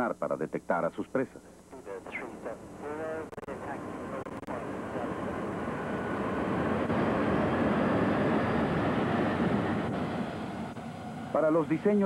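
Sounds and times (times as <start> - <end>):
jet engine rushing: 2.3 - 12.0.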